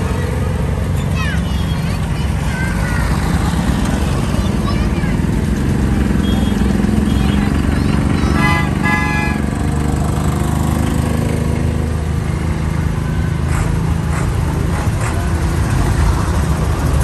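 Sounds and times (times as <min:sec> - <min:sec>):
deep tractor engine rumble: 0:00.0 - 0:17.0
tractor engine passing: 0:00.0 - 0:17.0.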